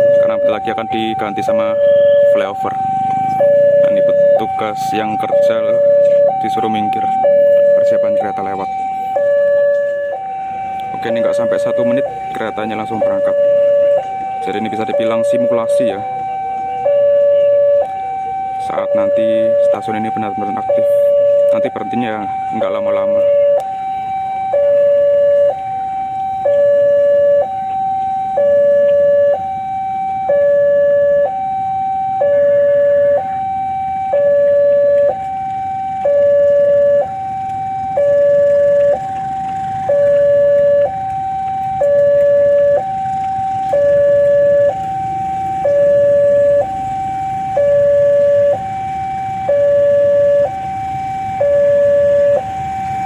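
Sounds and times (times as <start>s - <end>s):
two-tone level crossing alarm: 0.0s - 53.0s.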